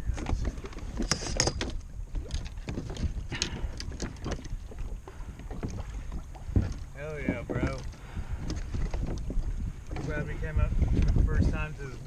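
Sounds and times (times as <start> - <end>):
kayak knocks and clacks: 0.0 - 12.0
water sloshing against kayak hull: 0.0 - 12.0
wind rumbling on microphone: 0.0 - 12.0.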